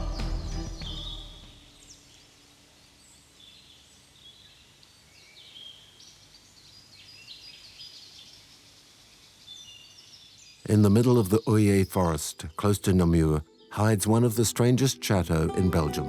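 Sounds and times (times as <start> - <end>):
birds chirping: 0.0 - 2.2, 2.9 - 16.0
soft background hiss: 1.6 - 16.0.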